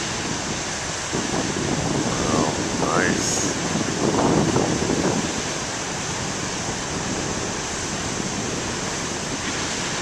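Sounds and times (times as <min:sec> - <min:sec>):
waves breaking on shore: 0:00.0 - 0:10.0.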